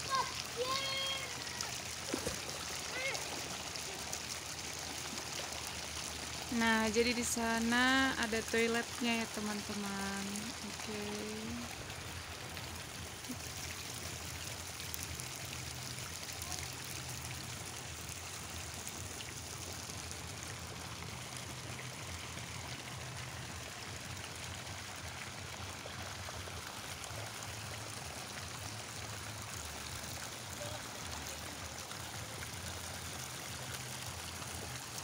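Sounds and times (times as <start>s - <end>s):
water splashing into a pool: 0.0s - 35.0s.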